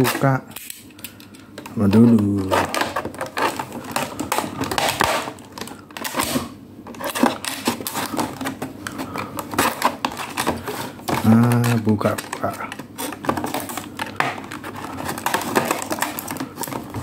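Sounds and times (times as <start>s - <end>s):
plastic packaging crackling: 0.0s - 17.0s.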